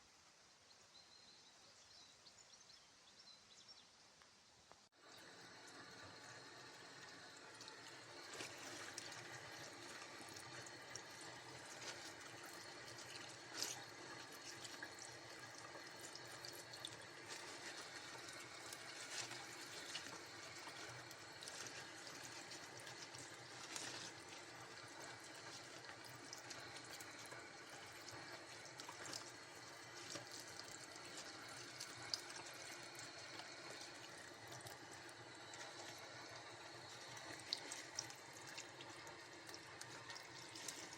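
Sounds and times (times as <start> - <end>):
tap water running: 5.0 - 40.9.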